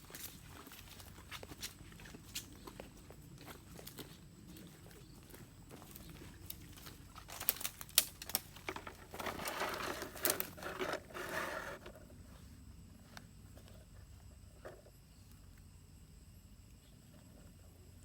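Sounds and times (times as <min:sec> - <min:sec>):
rustling and crinkling: 0:00.0 - 0:15.5.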